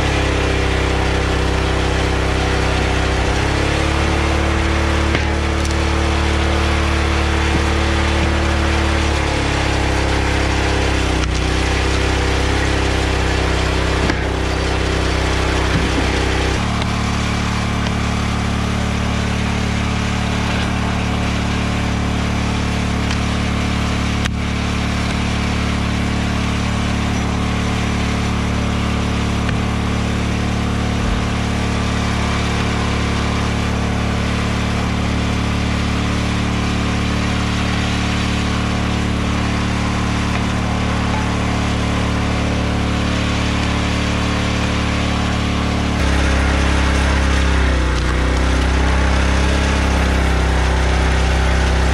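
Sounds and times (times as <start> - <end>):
small gasoline engine idling: 0.0 - 51.9.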